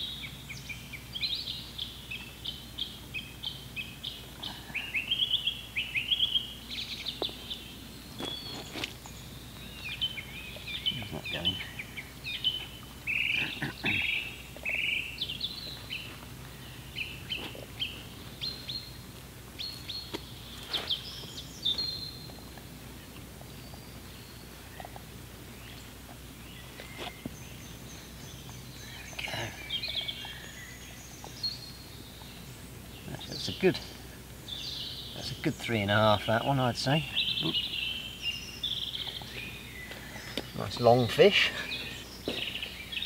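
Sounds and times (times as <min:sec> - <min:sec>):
birds chirping: 0:00.0 - 0:43.0
faint background hiss: 0:00.0 - 0:43.0.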